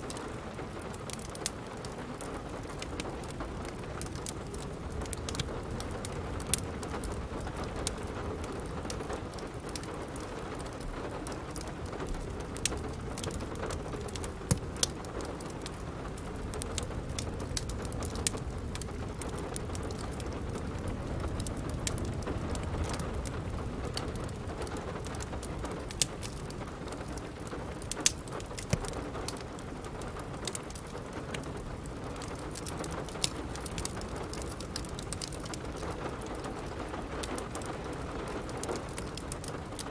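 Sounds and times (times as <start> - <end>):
steady rain: 0.0 - 39.9
wood fire crackling and popping: 0.0 - 39.9.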